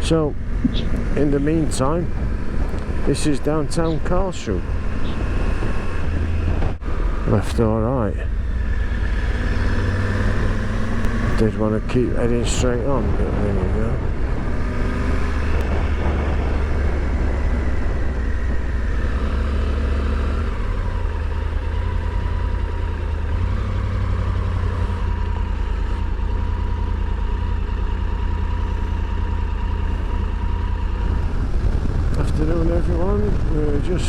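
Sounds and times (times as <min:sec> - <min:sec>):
motorcycle engine rumble: 0:00.0 - 0:34.0
road noise: 0:00.0 - 0:34.0.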